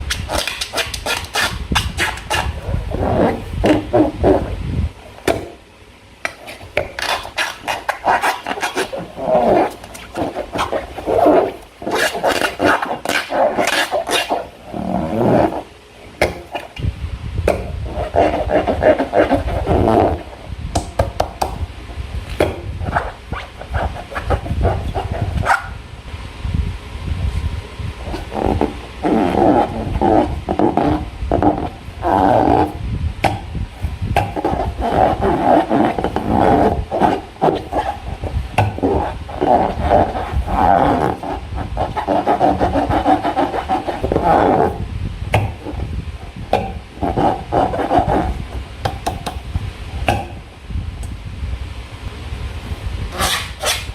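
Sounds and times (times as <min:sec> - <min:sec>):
balloon and slime squishing: 0:00.0 - 0:04.6, 0:06.3 - 0:16.8, 0:17.5 - 0:21.7, 0:22.4 - 0:25.8, 0:28.0 - 0:48.6.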